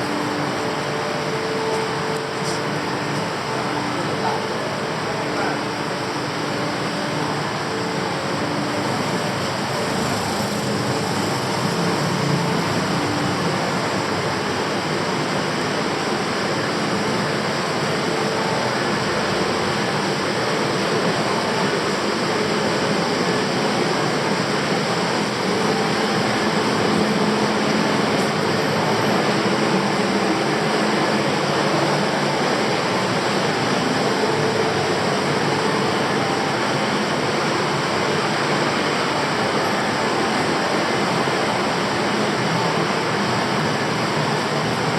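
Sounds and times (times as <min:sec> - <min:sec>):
city traffic noise: 0:00.0 - 0:44.9.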